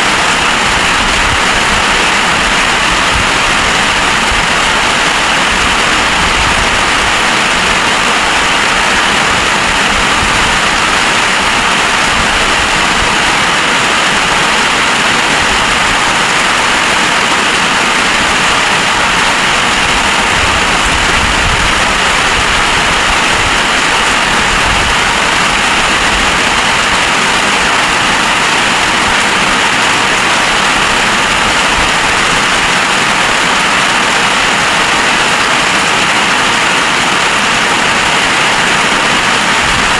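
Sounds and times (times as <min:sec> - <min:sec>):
wind rumbling on microphone: 0:00.0 - 0:35.2, 0:36.2 - 0:39.9
heavy rain pouring: 0:00.0 - 0:39.9.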